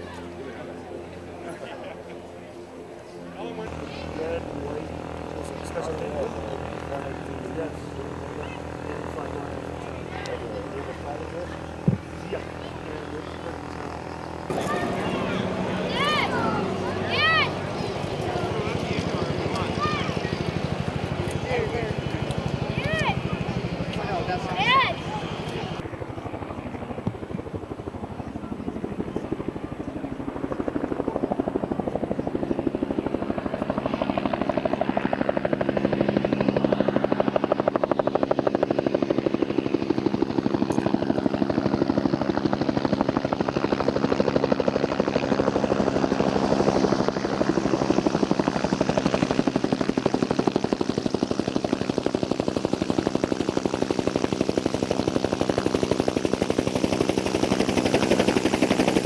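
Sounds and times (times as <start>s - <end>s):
aircraft engine throbbing hum: 0.0s - 59.0s.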